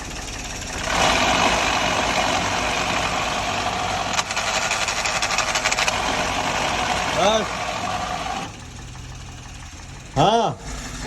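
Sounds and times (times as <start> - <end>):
car engine idling: 0.0 - 11.0
fast rattle: 0.0 - 11.0.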